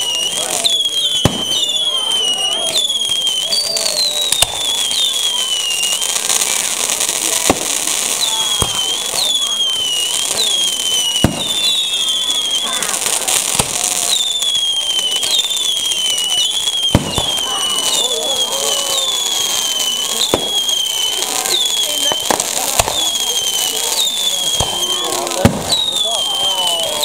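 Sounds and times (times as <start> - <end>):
crackling of firework sparks: 0.0 - 27.0
firework whistles: 0.0 - 27.0.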